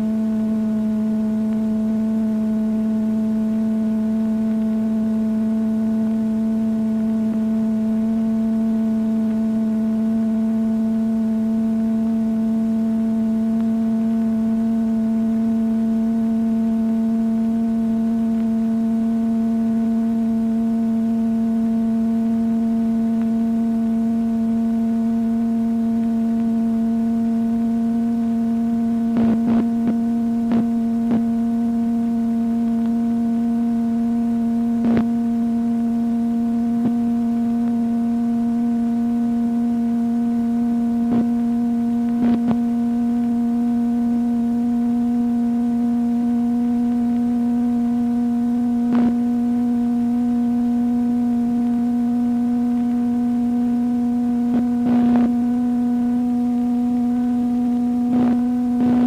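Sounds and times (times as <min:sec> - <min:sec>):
rising electronic sine-wave tone: 0:00.0 - 0:59.0.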